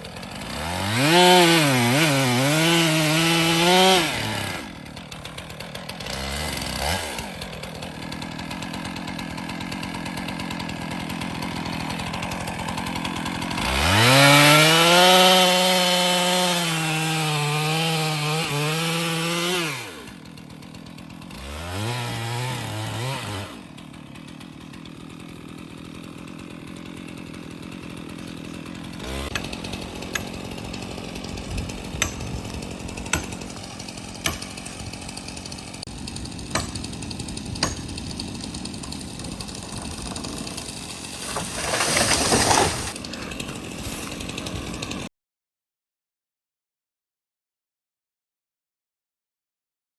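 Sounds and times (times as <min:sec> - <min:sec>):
chainsaw idling and revving: 0:00.0 - 0:45.1.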